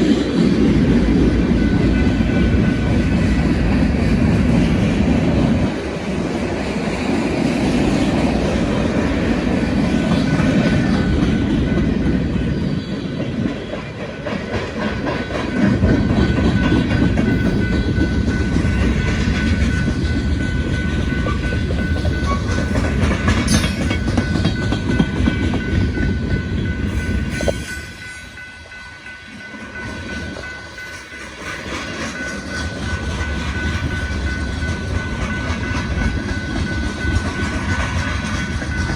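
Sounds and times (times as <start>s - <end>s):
freight train wheels clacking: 0.0s - 38.9s.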